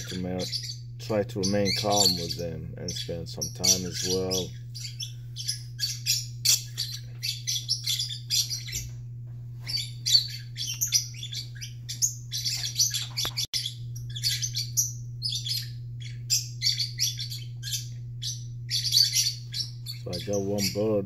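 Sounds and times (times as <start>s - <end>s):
lovebirds chirping: 0.0s - 21.0s
steady low hum: 0.0s - 21.0s.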